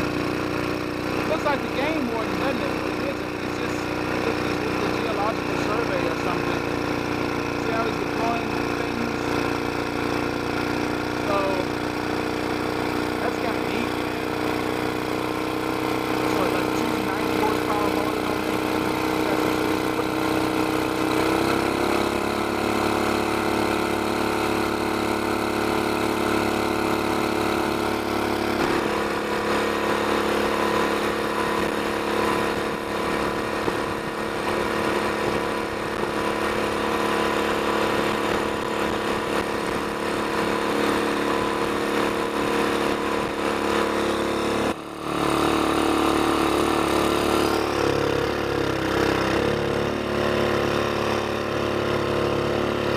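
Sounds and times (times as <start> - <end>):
small boat engine running: 0.0 - 52.9.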